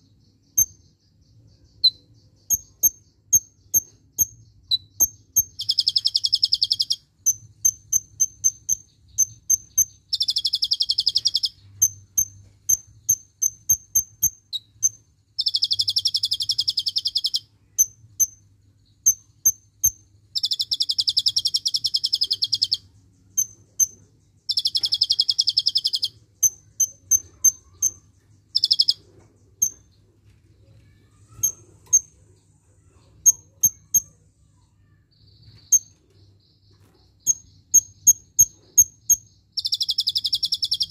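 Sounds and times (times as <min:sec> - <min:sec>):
bird singing high chips: 0:00.0 - 0:30.0, 0:30.9 - 0:32.3, 0:33.0 - 0:34.3, 0:35.4 - 0:40.9
bird trills: 0:00.0 - 0:30.0, 0:30.8 - 0:40.9.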